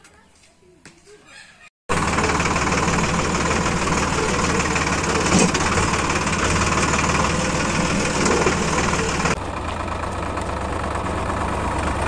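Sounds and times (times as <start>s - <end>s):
tractor diesel engine running: 1.9s - 12.0s.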